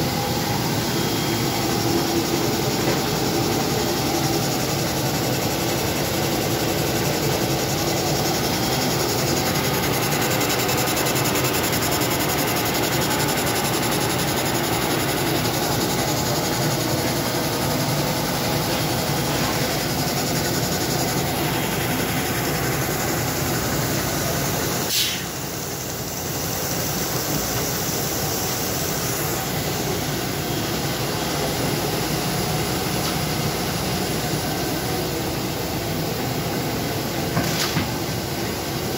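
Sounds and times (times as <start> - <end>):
machine belts and rollers running: 0.0 - 38.9.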